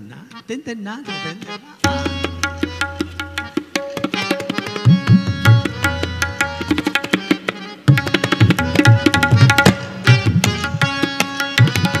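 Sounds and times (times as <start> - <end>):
tabla drumming: 1.4 - 12.0.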